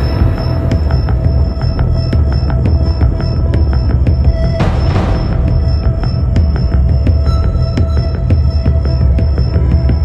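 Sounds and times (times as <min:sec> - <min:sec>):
background music with steady beat: 0:00.0 - 0:10.0
heavy bass drone: 0:00.0 - 0:10.0.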